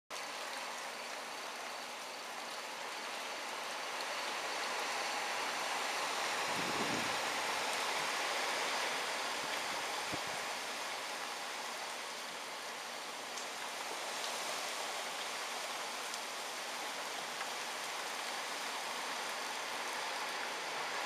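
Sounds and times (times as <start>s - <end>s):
rain hissing: 0.2s - 21.0s
wind rushing through trees: 2.2s - 21.0s.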